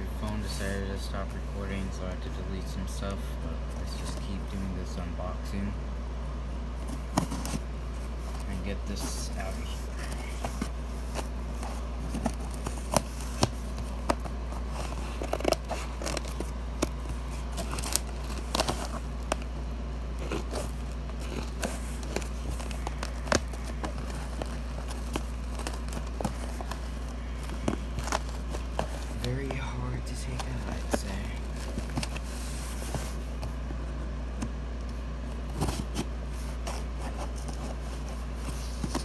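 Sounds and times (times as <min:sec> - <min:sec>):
steady low hum: 0:00.0 - 0:39.0
tape and cardboard crackling: 0:06.8 - 0:39.0.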